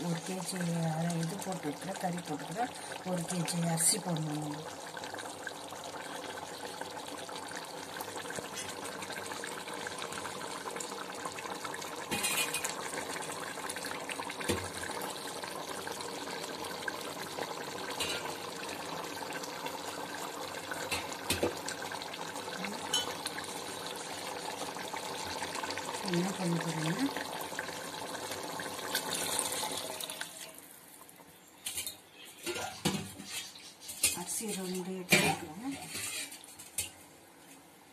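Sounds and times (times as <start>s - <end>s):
curry boiling in a pot: 0.0s - 37.1s.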